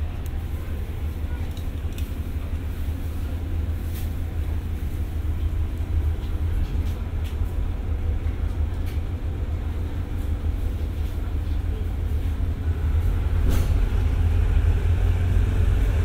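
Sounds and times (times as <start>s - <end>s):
diesel train rumble: 0.0s - 16.0s.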